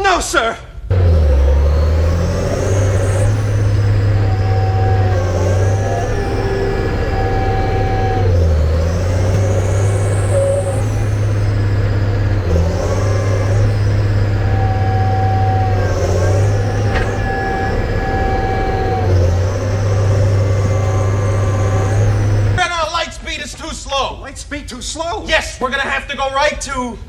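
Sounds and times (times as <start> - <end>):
steady whining tones: 0.9 - 22.6
tractor diesel engine under load: 0.9 - 22.6.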